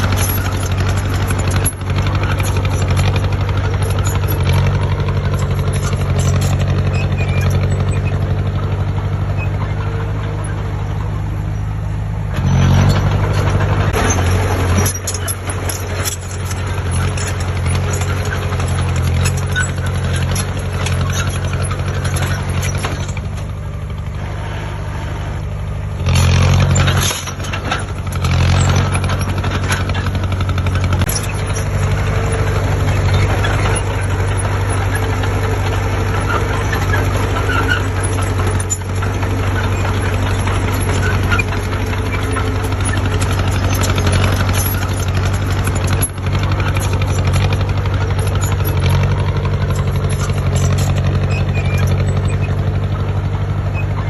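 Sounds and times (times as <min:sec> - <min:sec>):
machine clatter: 0:00.0 - 0:24.3, 0:25.2 - 0:54.0
diesel engine running: 0:00.0 - 0:54.0.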